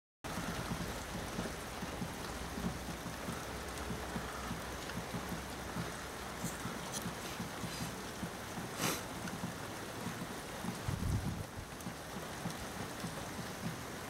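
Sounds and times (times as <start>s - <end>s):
heavy rain falling: 0.3s - 14.0s
raindrops tapping close by: 0.3s - 14.0s.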